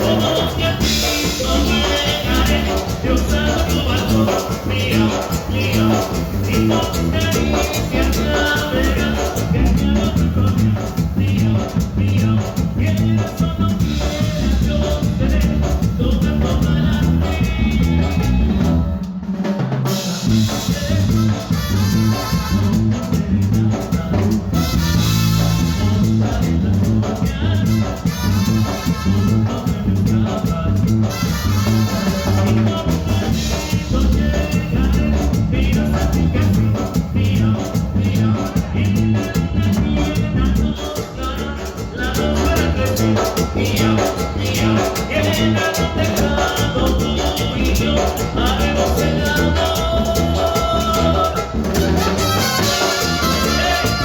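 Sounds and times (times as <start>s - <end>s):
live band playing latin dance music: 0.0s - 54.0s.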